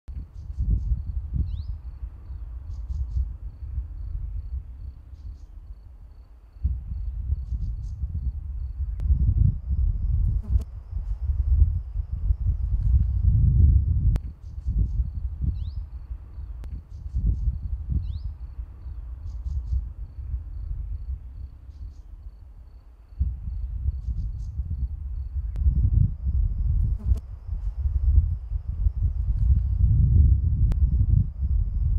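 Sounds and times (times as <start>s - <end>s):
high insect pulse: 0.1s - 31.9s
low fluctuating rumble: 0.3s - 5.8s, 6.7s - 22.4s, 23.2s - 31.9s.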